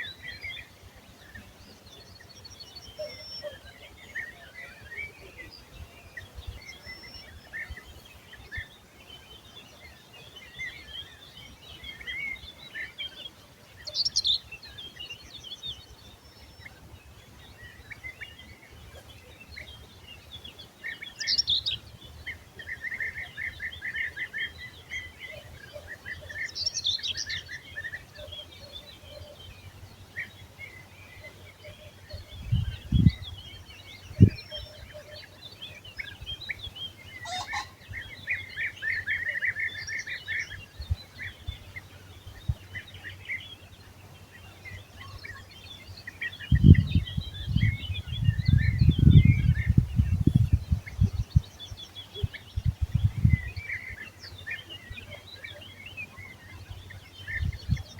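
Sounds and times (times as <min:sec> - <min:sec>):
songbirds singing and chirping: 0:00.0 - 0:57.9.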